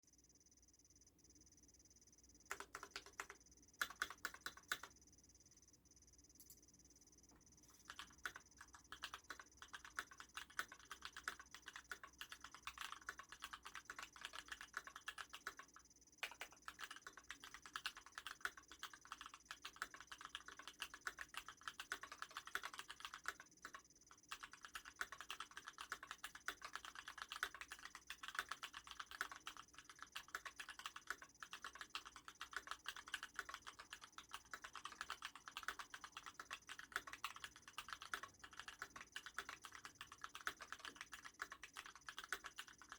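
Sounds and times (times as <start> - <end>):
mechanical keyboard typing: 2.5 - 5.0, 7.7 - 42.9.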